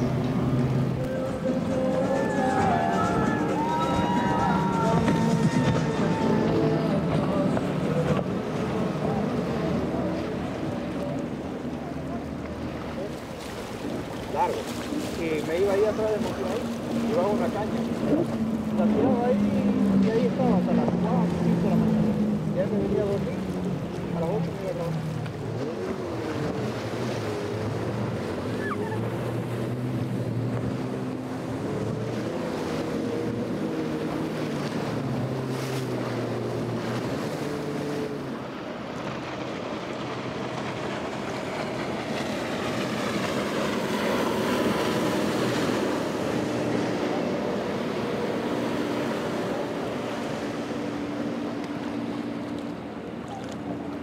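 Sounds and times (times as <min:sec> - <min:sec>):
powerboat engines passing: 0:00.0 - 0:54.0
spray and waves slapping hulls: 0:00.0 - 0:54.0.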